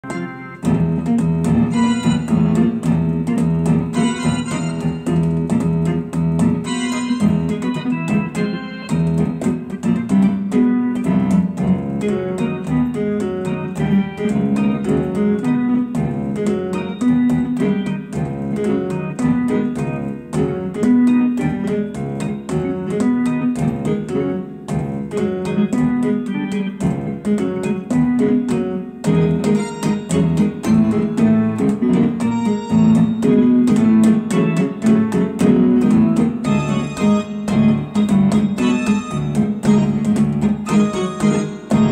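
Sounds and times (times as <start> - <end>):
electronic keyboard jazz piece: 0.0 - 41.9.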